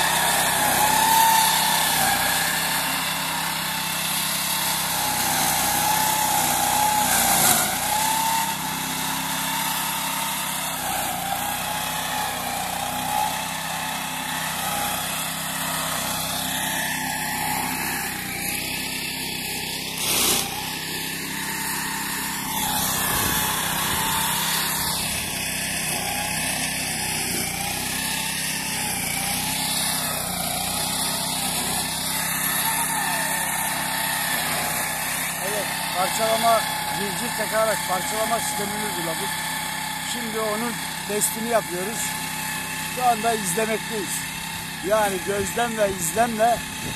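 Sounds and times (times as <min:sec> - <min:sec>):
mower engine running: 0:00.0 - 0:46.9.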